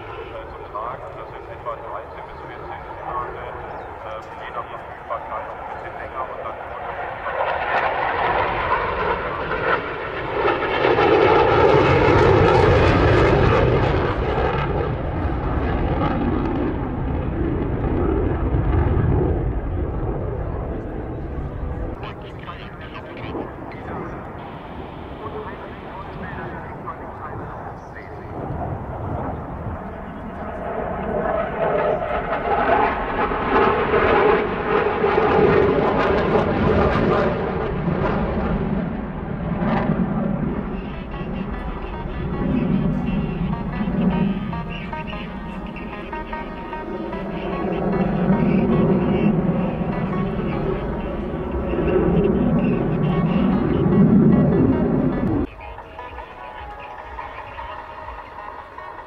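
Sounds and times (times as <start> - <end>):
jet flying past overhead: 0.0 - 59.0.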